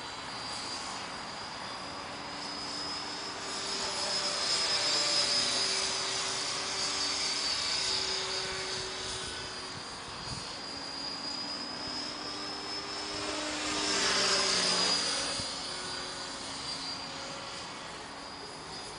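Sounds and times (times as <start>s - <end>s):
rc helicopter motor whine: 0.0s - 18.9s
rotor blades droning: 0.0s - 18.9s.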